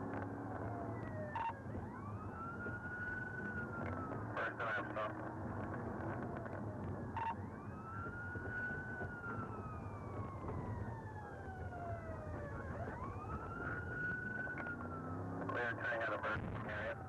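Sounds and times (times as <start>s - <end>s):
police siren wailing: 0.0s - 17.0s
vehicle rumble: 0.0s - 17.0s.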